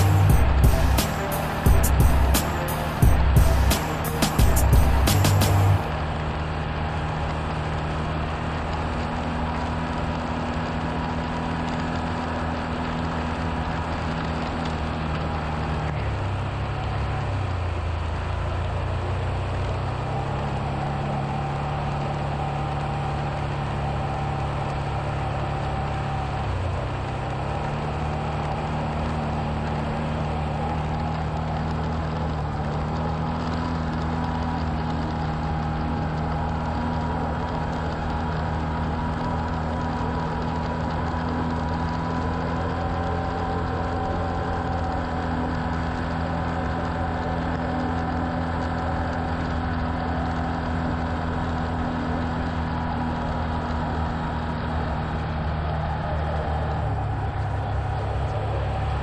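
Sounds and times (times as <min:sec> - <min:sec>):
tyres on gravel track: 0:00.0 - 0:59.0
vehicle engine running: 0:00.0 - 0:59.0.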